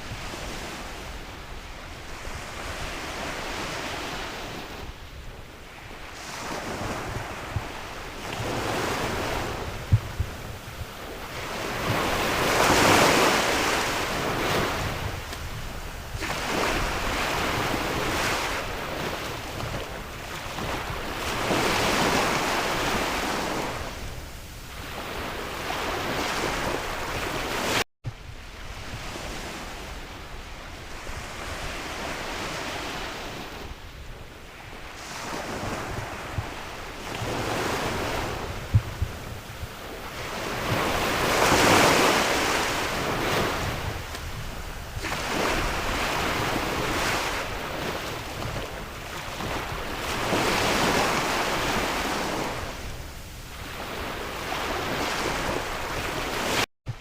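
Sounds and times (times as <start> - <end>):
waves breaking on shore: 0.0 - 57.0
wind buffeting microphone: 0.0 - 57.0.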